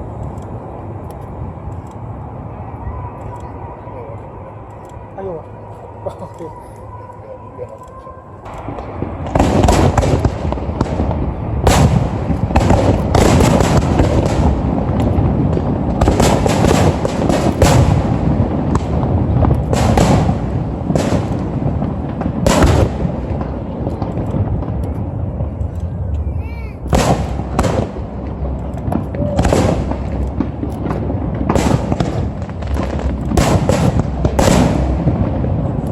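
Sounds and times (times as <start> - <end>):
fireworks sharp bangs: 0.0 - 35.9
heavy rumble: 0.0 - 35.9.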